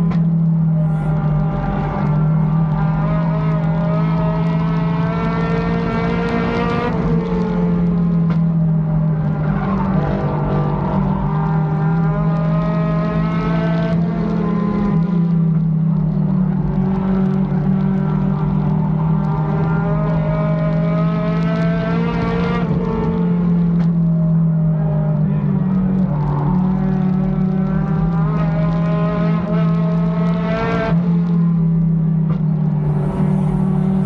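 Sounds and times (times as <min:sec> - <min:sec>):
race car engine running hard: 0:00.0 - 0:34.0.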